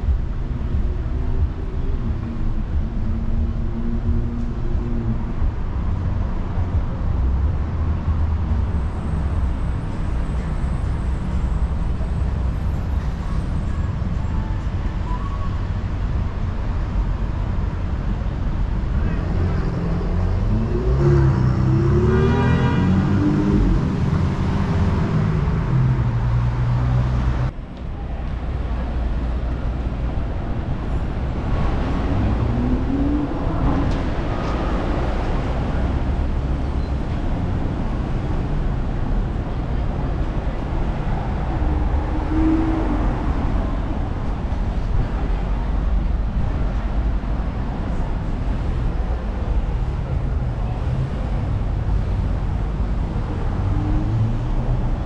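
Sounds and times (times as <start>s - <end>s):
rumble of car traffic: 0.0s - 55.0s
voices of passers-by: 0.0s - 55.0s.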